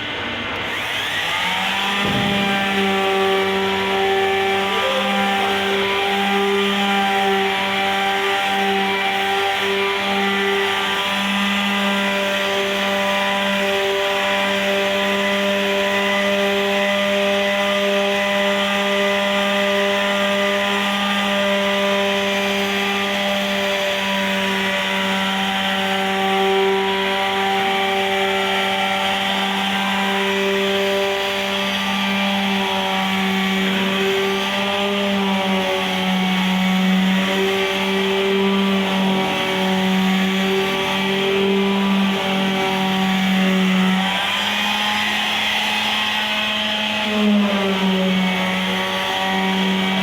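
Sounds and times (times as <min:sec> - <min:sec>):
electric sander whining and grinding: 0:00.0 - 0:50.0.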